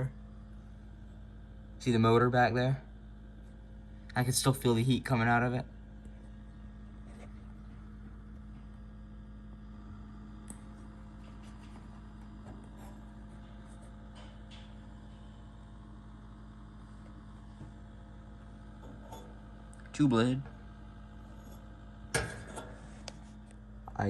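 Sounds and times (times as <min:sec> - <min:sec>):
heater fan motor humming: 0:00.0 - 0:24.0.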